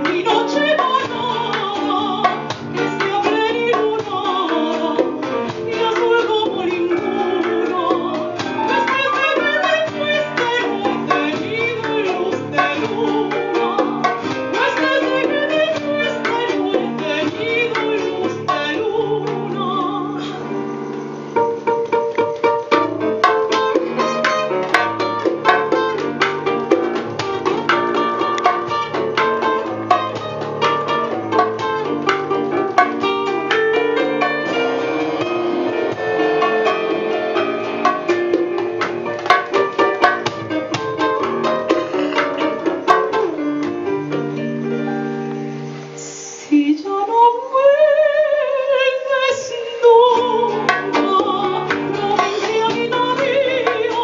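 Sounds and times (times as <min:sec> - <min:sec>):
acoustic guitar solo: 0:00.0 - 0:45.8
percussion: 0:00.0 - 0:46.5, 0:48.9 - 0:54.0.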